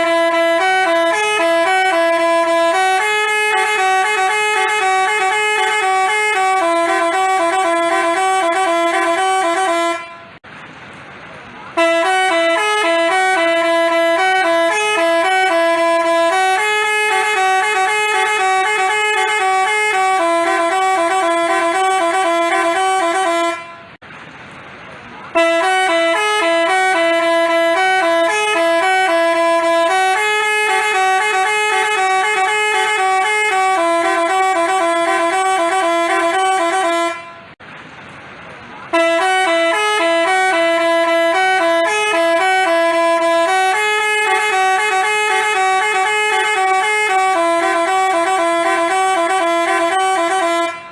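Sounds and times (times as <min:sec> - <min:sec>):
musical bus horn tune: 0:00.0 - 0:10.5, 0:11.7 - 0:24.0, 0:25.3 - 0:37.6, 0:38.9 - 0:50.9.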